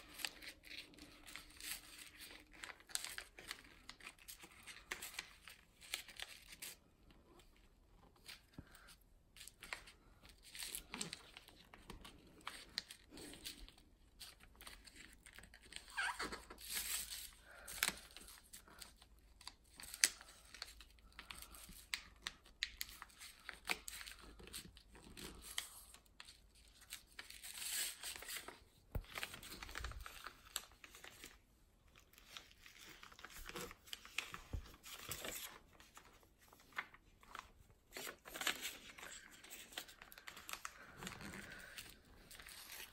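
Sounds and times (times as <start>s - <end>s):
paper rustling and crinkling: 0.0s - 42.9s.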